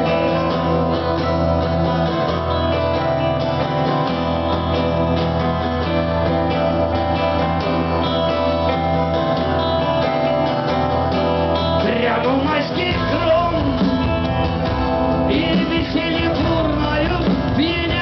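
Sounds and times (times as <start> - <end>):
live rock band playing: 0.0 - 18.0
strummed guitar: 0.0 - 18.0.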